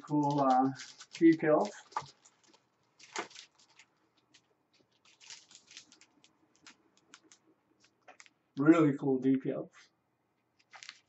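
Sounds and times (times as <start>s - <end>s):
decal sheet rustling and crinkling: 0.0s - 8.4s, 10.4s - 11.0s.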